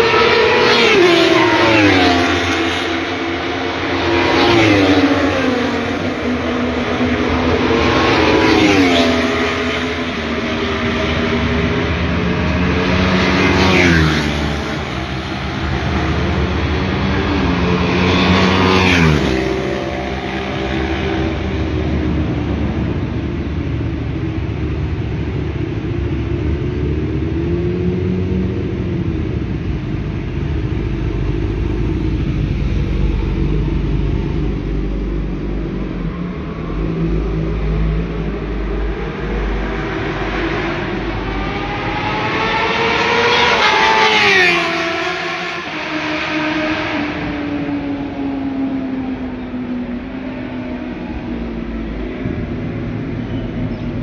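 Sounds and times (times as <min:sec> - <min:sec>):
engines droning: 0:00.0 - 0:54.0
motorbikes passing at high revs: 0:00.0 - 0:54.0.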